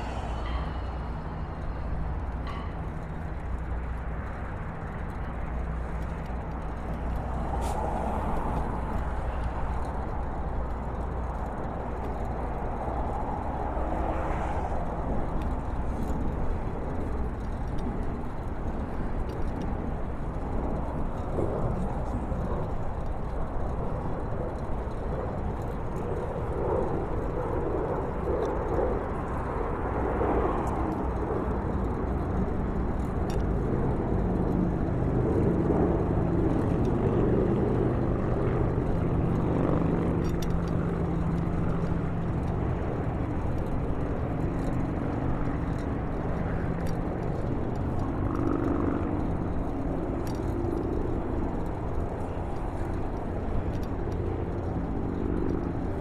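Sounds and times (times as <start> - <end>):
low engine hum: 0.0 - 56.0
road traffic: 0.0 - 56.0
wind noise on microphone: 0.0 - 56.0.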